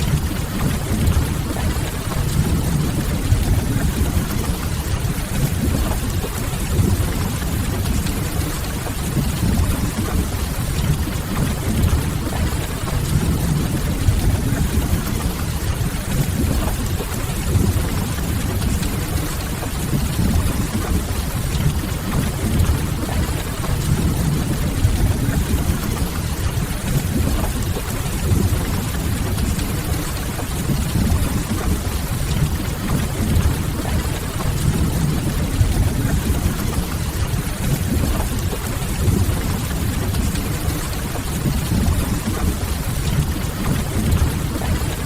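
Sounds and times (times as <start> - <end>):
rain on window glass: 0.0 - 45.0.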